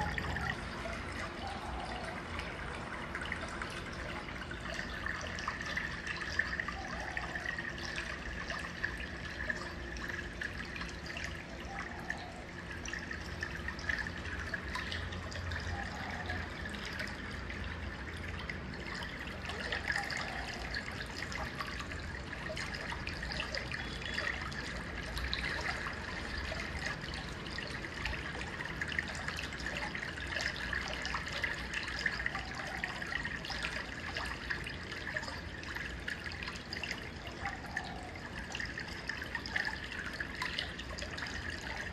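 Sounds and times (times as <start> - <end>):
rain dripping and trickling: 0.0 - 41.9.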